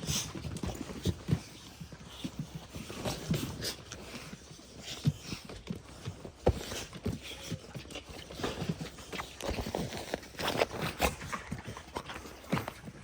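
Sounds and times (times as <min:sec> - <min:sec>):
taps scuffs and knocks: 0:00.0 - 0:13.0.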